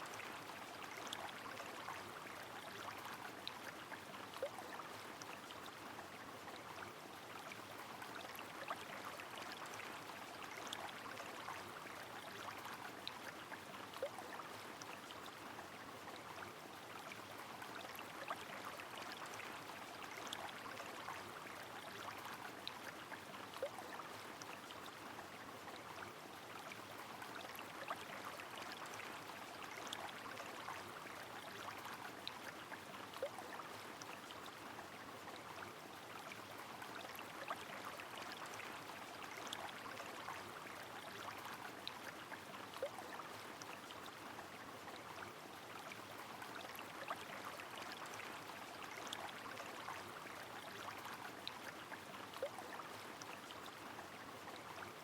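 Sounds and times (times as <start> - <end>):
river running water: 0.0 - 55.0.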